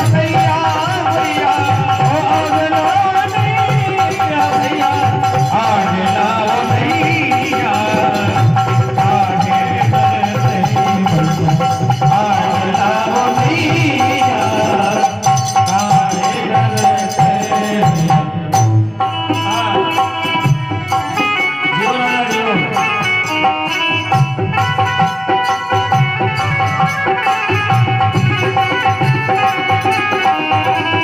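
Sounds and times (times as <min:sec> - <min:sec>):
hand drum: 0:00.0 - 0:31.0.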